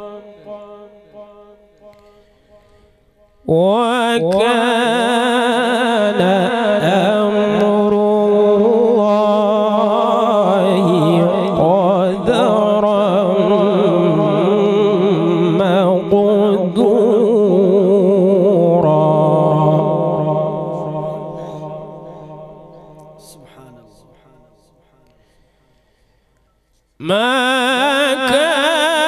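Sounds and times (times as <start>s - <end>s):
man reciting melodically: 0.0s - 25.6s, 27.0s - 29.0s.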